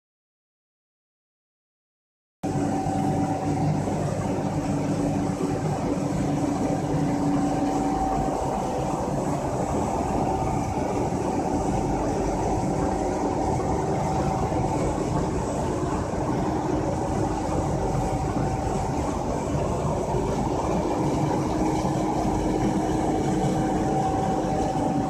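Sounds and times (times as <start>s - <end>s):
machinery humming: 2.4s - 25.0s
whining machine tones: 2.4s - 25.0s.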